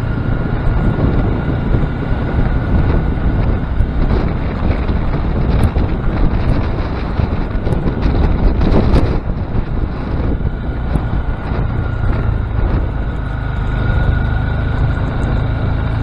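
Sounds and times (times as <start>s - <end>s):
motorcycle engine and road rumble: 0.0s - 16.0s
wind buffeting microphone: 0.0s - 16.0s.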